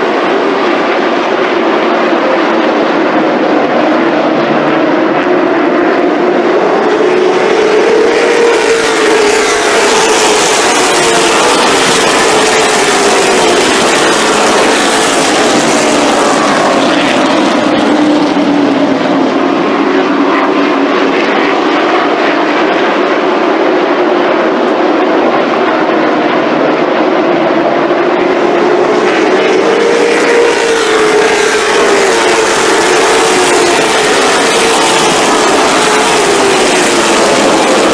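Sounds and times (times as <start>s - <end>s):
race car engines droning: 0.0s - 37.9s.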